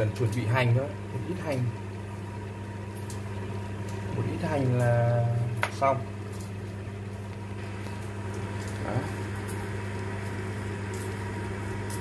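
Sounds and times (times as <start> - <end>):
induction cooktop hum and fan: 0.0 - 12.0
simmering porridge popping: 0.0 - 12.0.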